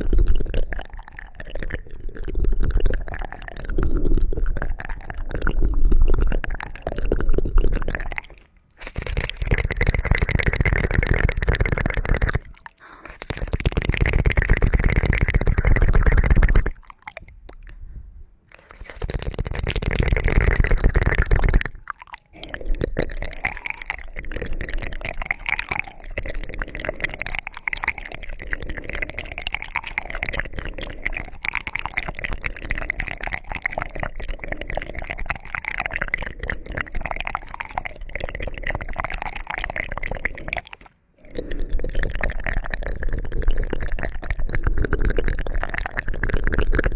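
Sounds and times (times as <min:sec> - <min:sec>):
crackling and scratching on microphone: 0:00.0 - 0:17.8, 0:18.5 - 0:46.9.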